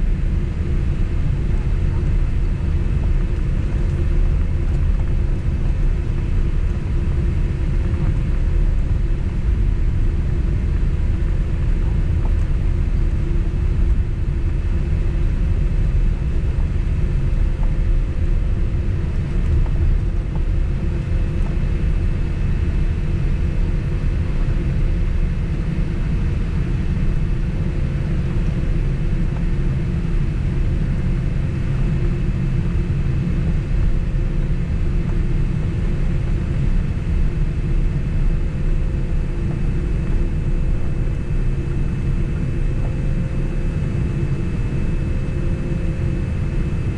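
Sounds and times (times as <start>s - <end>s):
airliner cabin rumble: 0.0s - 46.9s
faint steady hum: 0.0s - 46.9s.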